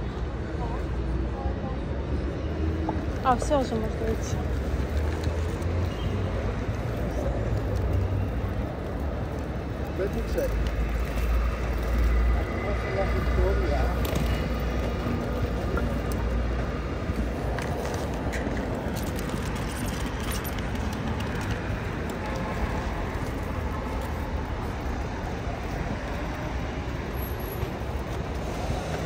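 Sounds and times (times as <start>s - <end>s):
cars driving past: 2.1s - 29.0s.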